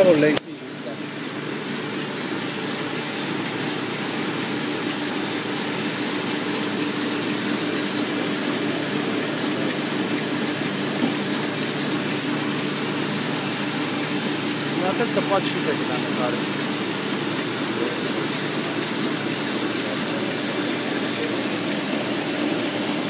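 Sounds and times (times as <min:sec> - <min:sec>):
printing press running: 0:00.0 - 0:23.0.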